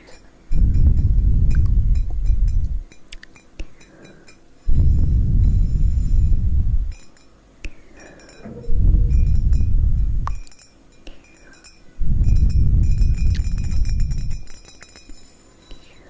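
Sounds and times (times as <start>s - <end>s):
light taps and clinks: 0.0s - 16.0s.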